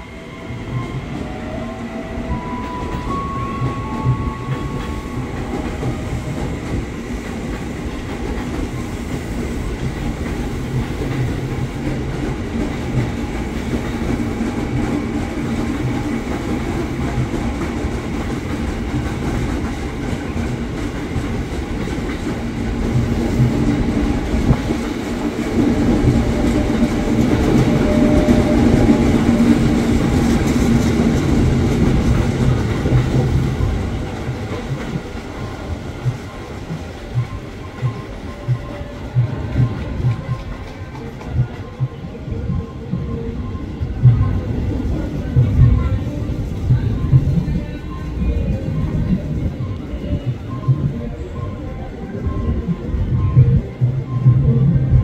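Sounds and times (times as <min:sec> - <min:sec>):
train wheels on rails clacking: 0:00.0 - 0:51.6.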